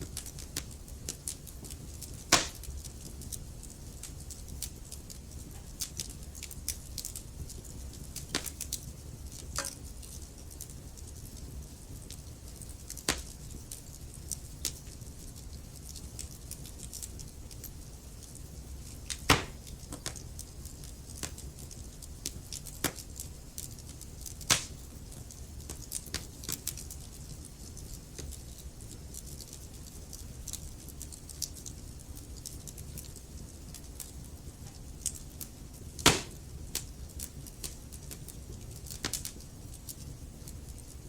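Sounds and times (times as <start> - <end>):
burning logs crackling and popping: 0.0 - 41.0
fire flames rumbling: 0.0 - 41.0.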